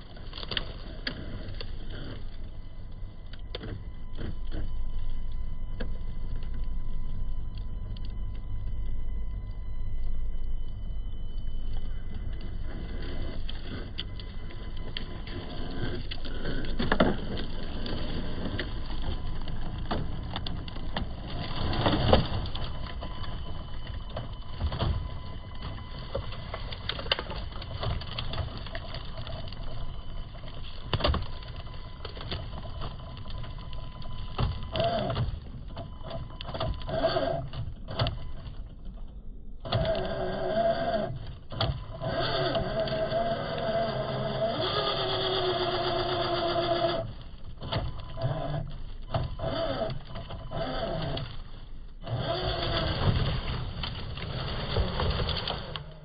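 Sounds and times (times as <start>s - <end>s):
small electric motor whining: 0.0s - 38.4s, 39.6s - 56.0s.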